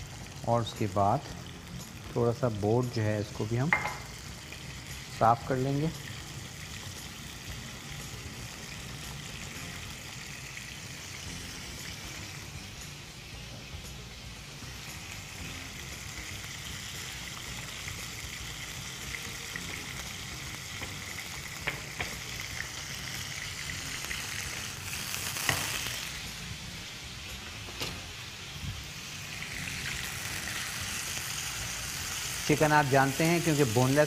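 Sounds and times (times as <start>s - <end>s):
chicken sizzling in pan: 0.0s - 34.0s.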